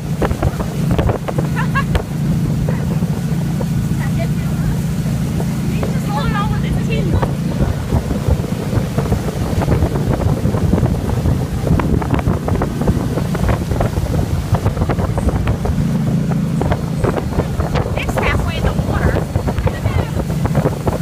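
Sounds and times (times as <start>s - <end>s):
motorboat engine drone: 0.0s - 21.0s
water rushing in wake: 0.0s - 21.0s
wind buffeting microphone: 0.0s - 21.0s.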